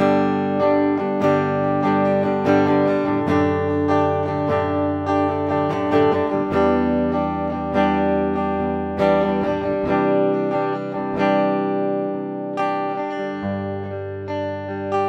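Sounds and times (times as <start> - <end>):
clean electric guitar strummed chords: 0.0 - 15.0.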